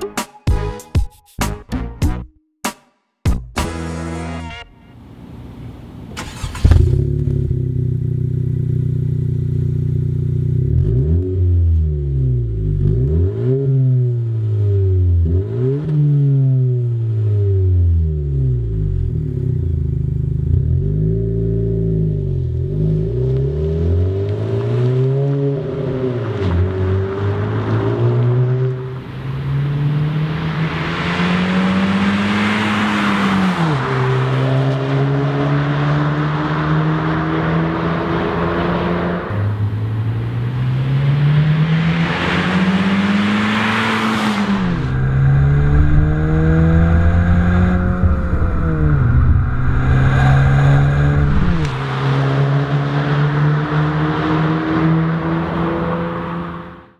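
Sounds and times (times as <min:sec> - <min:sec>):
car exhaust accelerating hard: 0:06.2 - 0:56.9.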